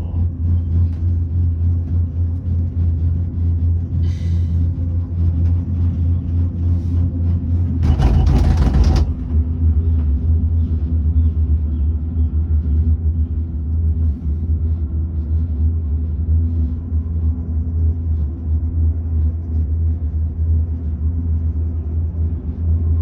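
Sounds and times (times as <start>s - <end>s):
gondola low rumble: 0.0s - 23.0s.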